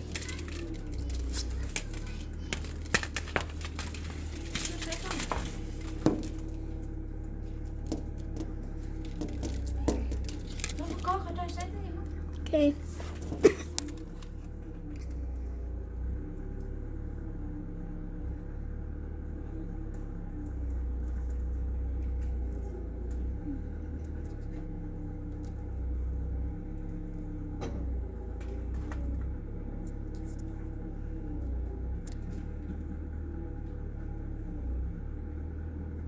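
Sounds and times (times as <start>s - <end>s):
low engine-like rumble: 0.0s - 36.0s.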